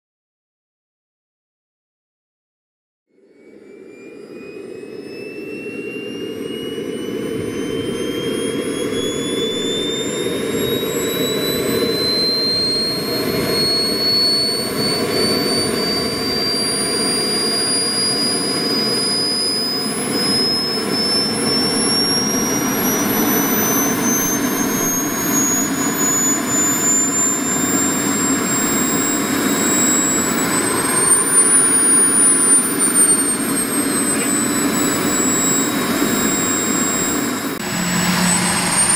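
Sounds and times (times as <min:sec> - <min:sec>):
model jet turbine whine: 0:03.1 - 0:38.9
rush of exhaust: 0:04.6 - 0:38.9.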